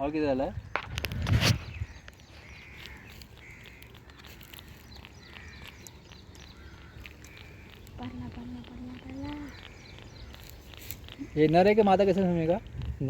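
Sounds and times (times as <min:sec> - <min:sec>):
bird calling faintly: 0:00.3 - 0:13.0.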